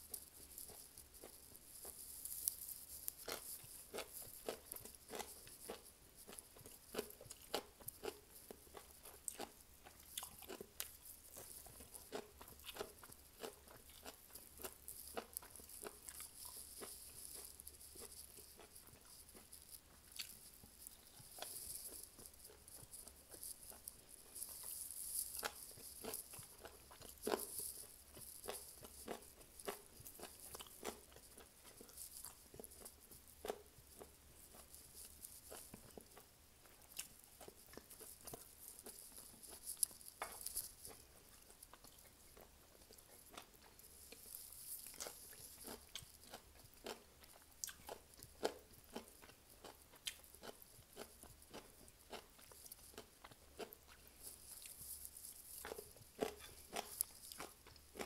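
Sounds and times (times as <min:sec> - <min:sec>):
chewing with small crunches: 0:00.0 - 0:58.0.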